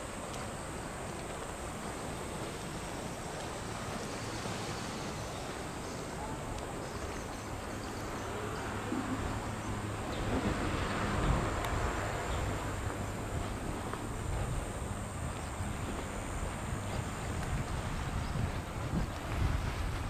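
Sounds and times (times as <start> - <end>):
outdoor park background noise: 0.0 - 20.0
wind buffeting microphone: 0.0 - 20.0.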